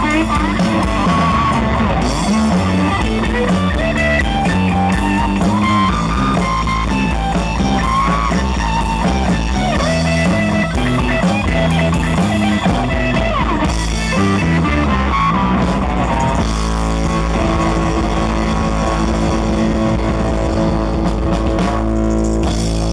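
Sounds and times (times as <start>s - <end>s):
drum kit: 0.0s - 22.9s
electric guitar lead: 0.0s - 22.9s.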